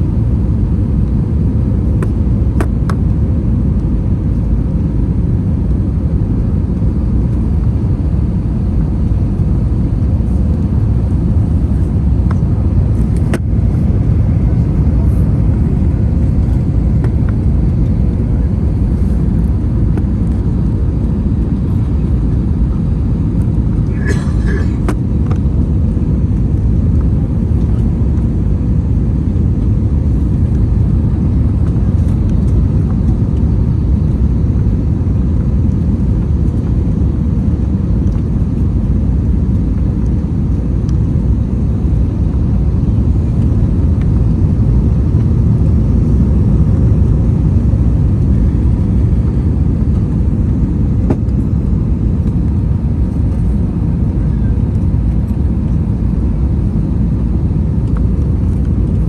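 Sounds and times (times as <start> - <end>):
aircraft cabin rumble: 0.0 - 59.0
faint steady hum: 0.0 - 59.0.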